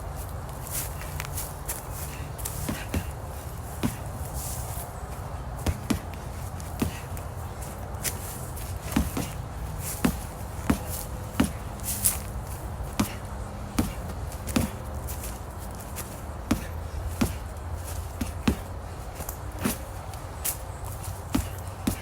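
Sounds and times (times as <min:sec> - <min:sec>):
footsteps: 0:00.0 - 0:22.0.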